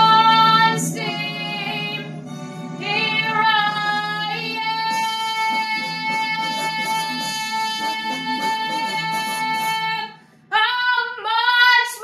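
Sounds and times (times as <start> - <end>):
young woman singing with vibrato: 0.0 - 2.1, 2.8 - 12.0
sustained backing music: 0.0 - 10.5.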